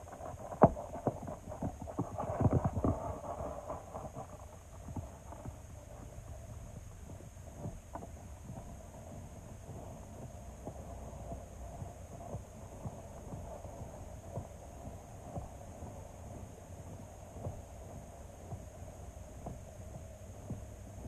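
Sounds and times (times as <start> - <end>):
muffled underwater hum: 0.0 - 21.0.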